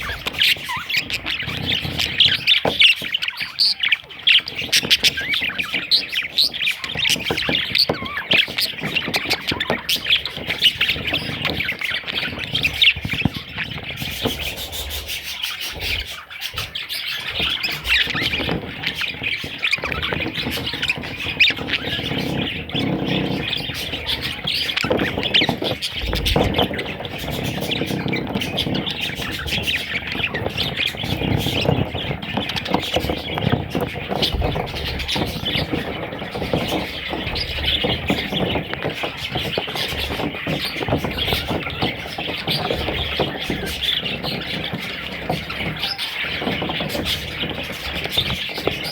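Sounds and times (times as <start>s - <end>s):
budgerigars chirping and squawking: 0.0s - 48.9s.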